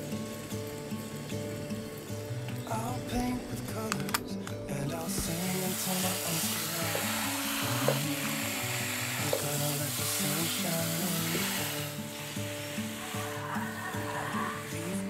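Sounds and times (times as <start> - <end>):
hose water spraying: 0.0 - 4.1, 4.8 - 15.0.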